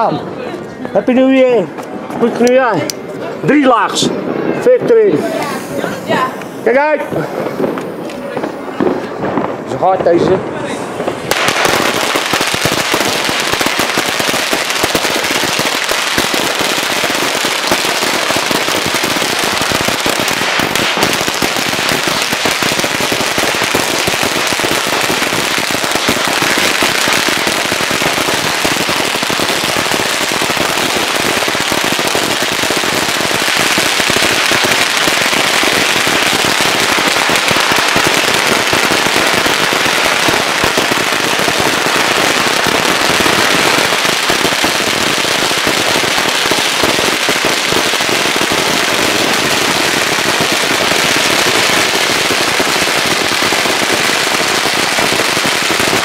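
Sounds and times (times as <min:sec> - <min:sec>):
firecracker string crackling: 0:00.0 - 0:56.0.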